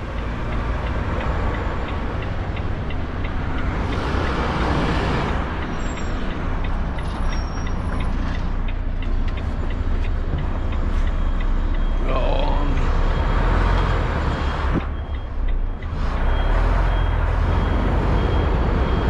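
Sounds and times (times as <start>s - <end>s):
light steady ticking: 0.0s - 13.3s, 14.4s - 19.0s
diesel lorry engine running: 0.0s - 19.0s.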